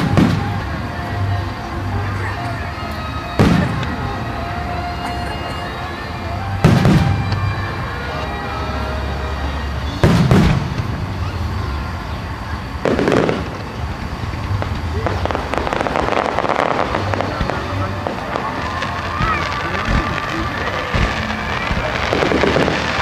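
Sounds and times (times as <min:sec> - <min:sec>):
firework booms: 0:00.0 - 0:01.5, 0:02.4 - 0:23.0
firework crackling: 0:00.0 - 0:23.0.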